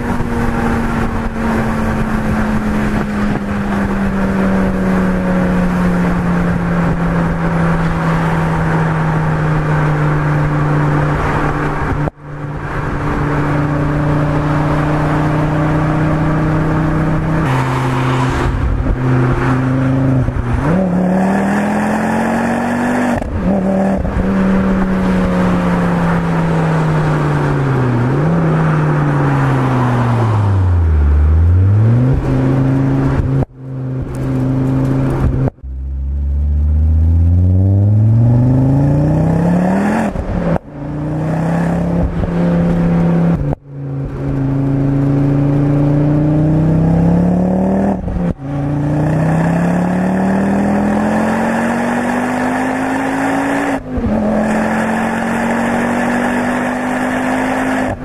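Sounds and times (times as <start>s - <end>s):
road noise: 0.0s - 58.0s
turbocharged car engine: 0.0s - 58.0s.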